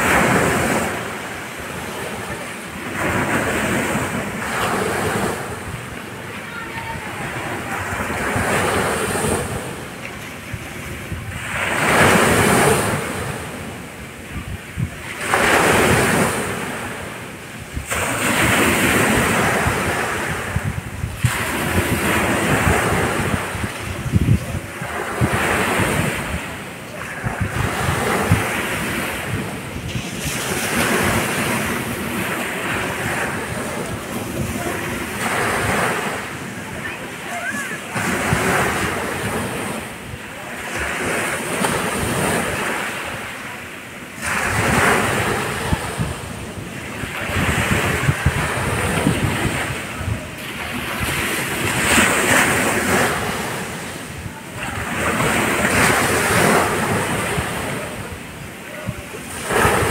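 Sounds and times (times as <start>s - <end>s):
small waves breaking on beach: 0.0s - 59.9s.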